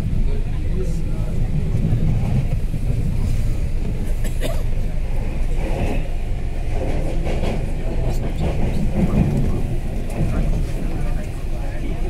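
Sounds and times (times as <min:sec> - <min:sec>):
metro train rumbling on track: 0:00.0 - 0:12.0.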